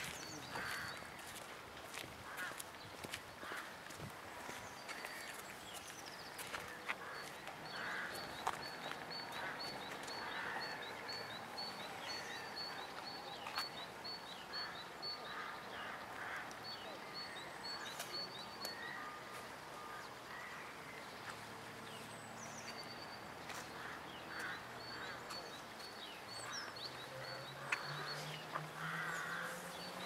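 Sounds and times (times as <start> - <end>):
faint street background noise: 0.0 - 30.0
small birds chirping: 4.4 - 30.0.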